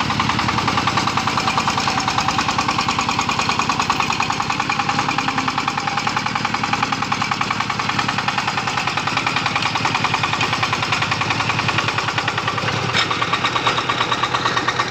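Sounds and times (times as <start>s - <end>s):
diesel engine chugging: 0.0s - 14.9s.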